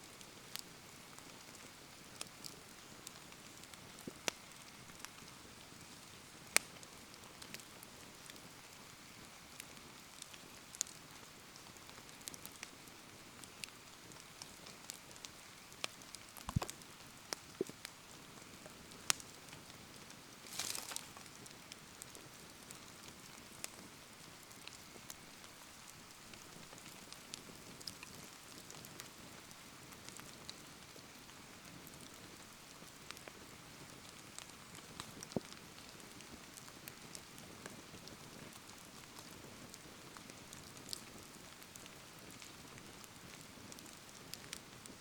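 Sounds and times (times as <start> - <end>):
bonfire crackling and popping: 0.1 - 45.0
rain falling: 0.7 - 45.0.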